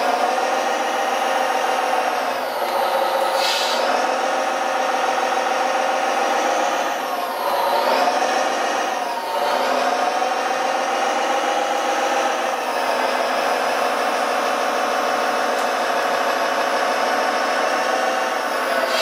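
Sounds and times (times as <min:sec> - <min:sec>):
electric motor whir: 0:00.0 - 0:19.0.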